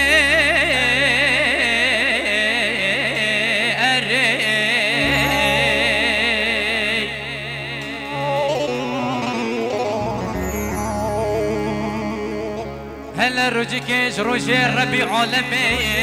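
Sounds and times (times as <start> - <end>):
man singing into a microphone: 0.0 - 16.0
steady low drone: 0.0 - 16.0.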